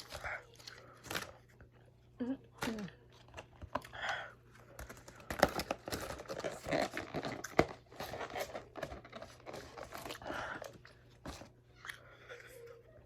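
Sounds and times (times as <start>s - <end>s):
crinkling and tearing handling noises: 0.0s - 1.7s, 2.6s - 12.0s.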